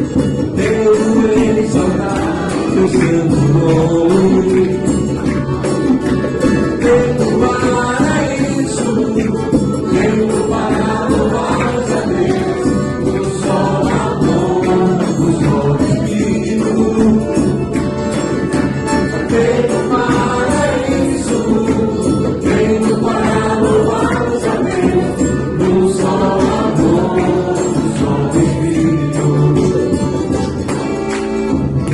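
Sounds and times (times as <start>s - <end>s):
voices singing together: 0.0s - 31.0s
instrumental accompaniment: 0.0s - 31.9s.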